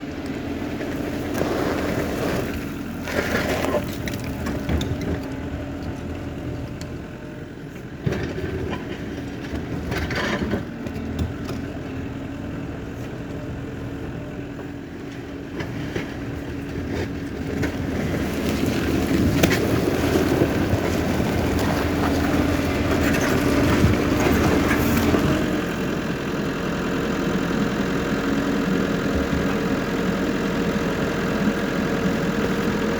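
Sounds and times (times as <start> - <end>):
bulldozer diesel engine droning: 0.0 - 32.9.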